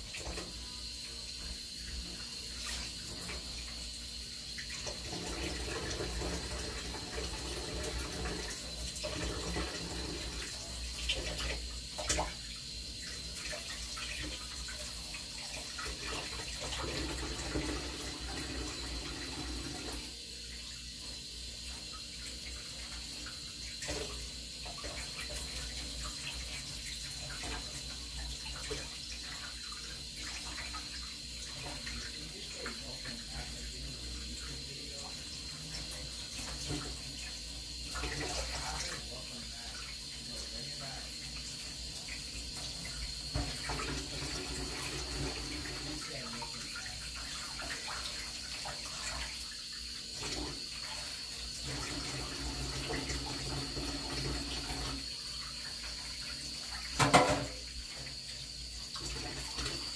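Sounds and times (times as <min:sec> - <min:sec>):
tap water splashing: 0:00.0 - 0:00.6, 0:04.6 - 0:20.0, 0:22.7 - 0:33.5, 0:35.6 - 0:40.0, 0:41.4 - 0:58.2.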